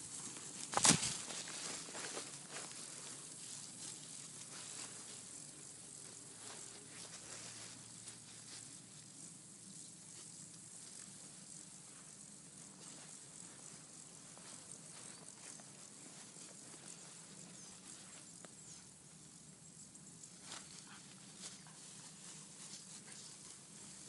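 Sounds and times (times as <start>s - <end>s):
rustles in grass: 0.0s - 24.0s
steady high hiss: 0.0s - 24.0s.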